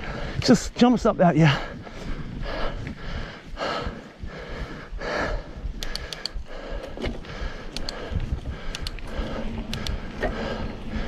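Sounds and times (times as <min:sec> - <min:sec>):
person breathing hard: 0:00.0 - 0:00.5, 0:01.4 - 0:11.0
low rumble from bike ride: 0:00.0 - 0:11.0.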